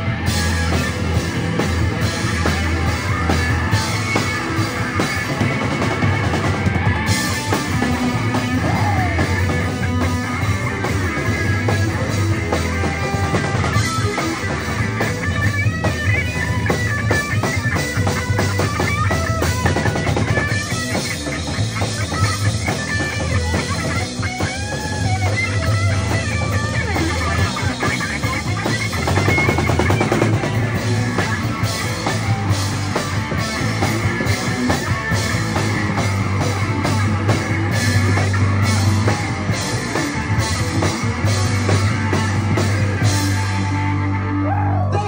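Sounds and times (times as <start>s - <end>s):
bass guitar: 0.0s - 45.0s
distorted electric guitar: 0.0s - 45.0s
drum kit: 0.0s - 45.0s.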